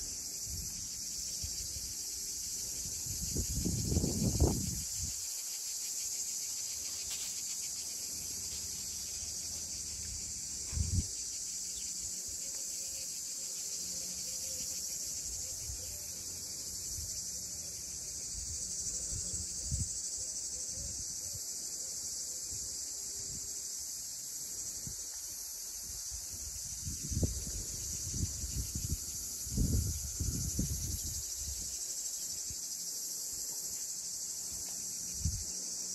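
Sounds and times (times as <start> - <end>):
cicadas chorus: 0.0 - 35.9.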